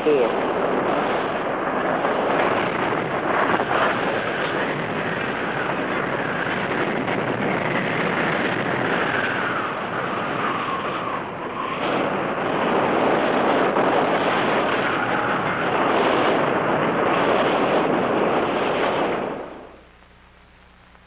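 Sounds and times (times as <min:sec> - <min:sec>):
tornado wind roaring: 0:00.0 - 0:19.8.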